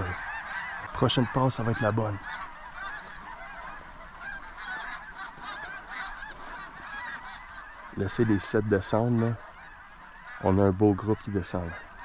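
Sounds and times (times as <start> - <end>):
flock of geese honking: 0.0 - 12.0.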